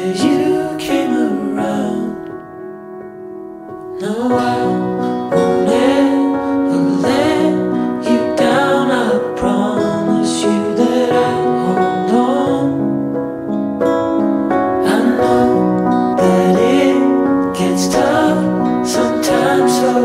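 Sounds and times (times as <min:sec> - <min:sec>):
person singing pop song: 0:00.0 - 0:02.6, 0:03.8 - 0:13.7, 0:14.5 - 0:20.0
instrumental accompaniment: 0:00.0 - 0:20.0.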